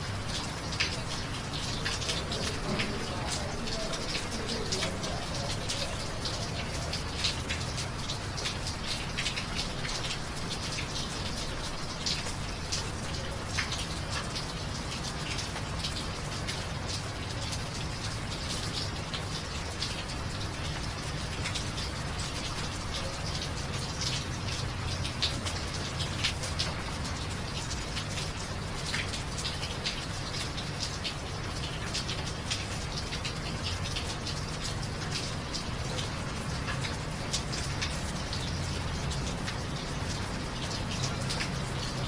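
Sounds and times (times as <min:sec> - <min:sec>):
rain hiss: 0:00.0 - 0:42.0
raindrops ticking: 0:00.0 - 0:42.0.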